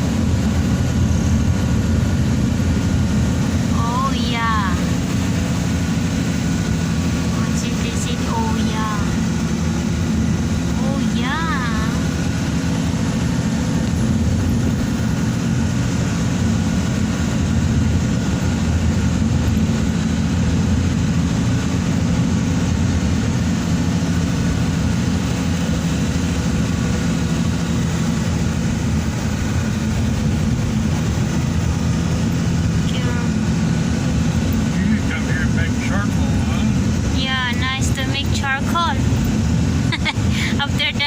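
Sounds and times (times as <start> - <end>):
road noise: 0.0 - 41.0
vehicle engine hum: 0.0 - 41.0.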